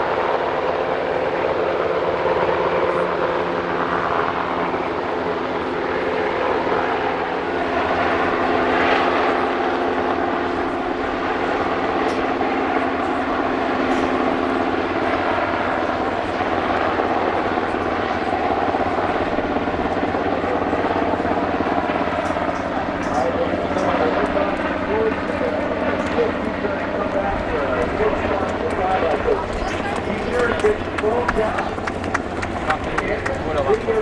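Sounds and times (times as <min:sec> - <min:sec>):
helicopter hovering: 0:00.0 - 0:34.0.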